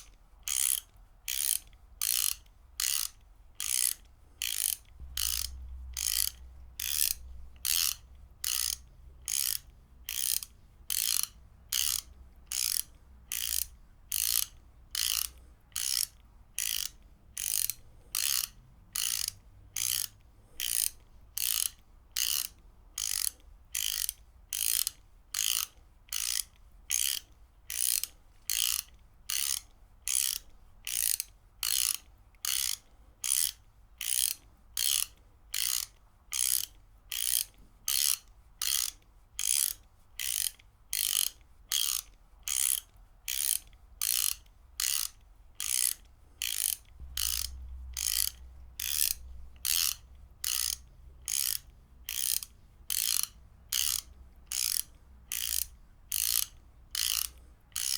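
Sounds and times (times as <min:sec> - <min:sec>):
ratchet wrench clicking: 0:00.0 - 0:57.9.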